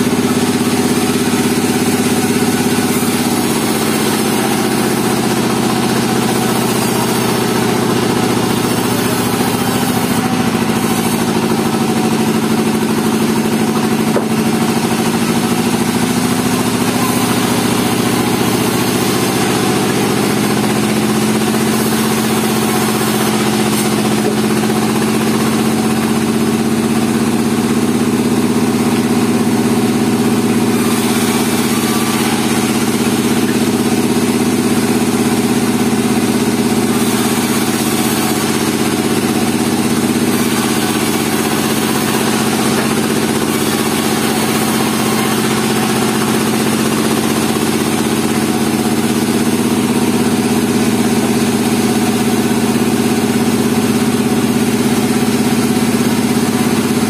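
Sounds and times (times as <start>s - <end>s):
band saw machine hum: 0.0s - 57.0s
saw blade cutting hiss: 0.3s - 26.2s, 30.4s - 52.9s.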